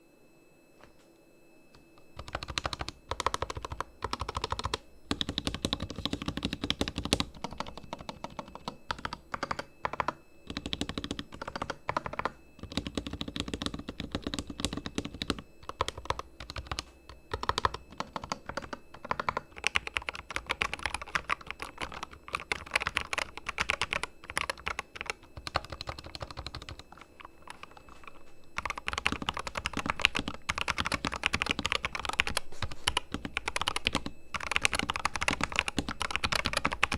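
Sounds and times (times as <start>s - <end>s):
mechanical keyboard typing: 2.2s - 36.9s.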